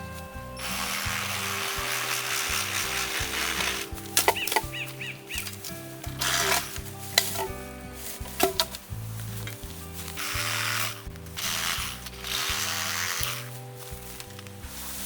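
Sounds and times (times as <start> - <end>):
background music: 0.0 - 15.0
dry bamboo rustling and scraping: 0.0 - 15.0.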